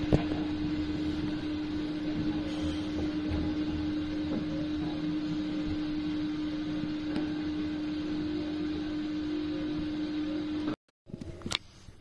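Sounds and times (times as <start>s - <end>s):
train running rumble and hiss: 0.0s - 10.7s
steady hum: 0.0s - 12.0s.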